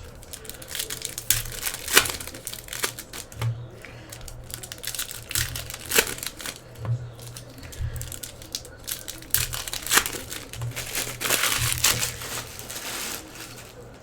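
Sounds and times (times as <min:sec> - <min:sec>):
cards being handled: 0:00.0 - 0:14.0
wrapper tearing and crinkling: 0:00.0 - 0:14.0.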